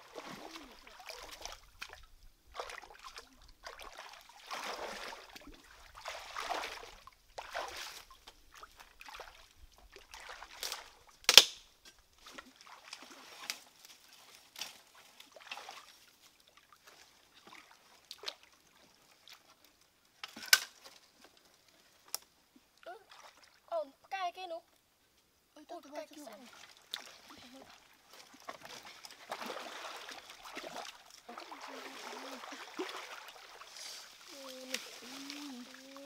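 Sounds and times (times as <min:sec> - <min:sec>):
water splashing and sloshing: 0:00.0 - 0:24.9, 0:25.7 - 0:36.0.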